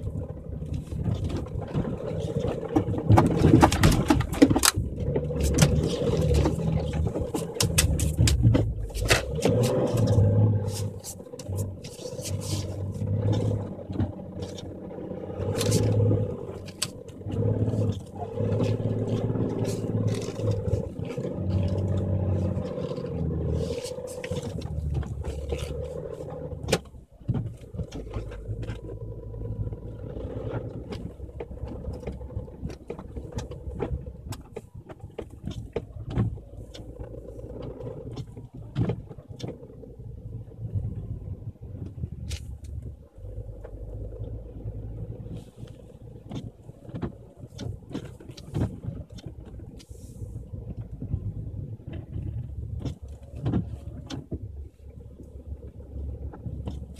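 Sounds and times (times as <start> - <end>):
diesel engine pulling uphill: 0.0 - 56.9
snow crunching against car: 0.0 - 56.9.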